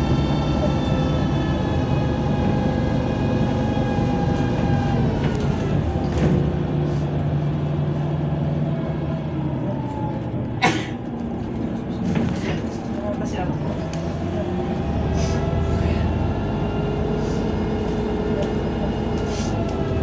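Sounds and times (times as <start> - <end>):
bus engine whine: 0.0 - 20.0.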